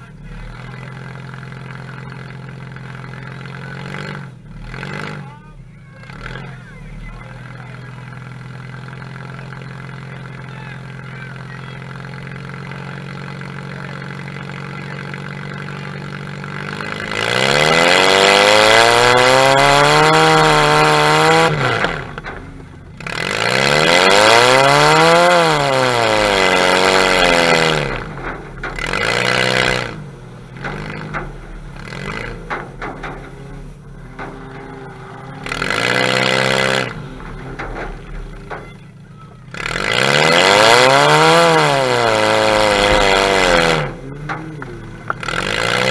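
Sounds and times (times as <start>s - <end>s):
car engine idling and revving: 0.0s - 45.9s.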